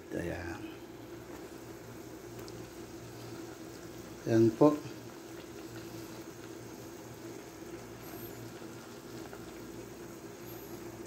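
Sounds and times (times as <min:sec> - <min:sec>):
soup simmering in a pot: 0:00.0 - 0:11.0.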